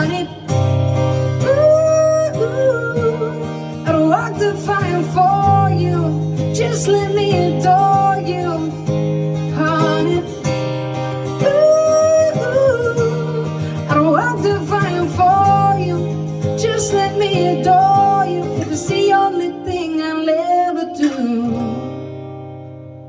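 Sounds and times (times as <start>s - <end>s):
person singing: 0.0s - 22.2s
guitar accompaniment: 0.0s - 23.0s.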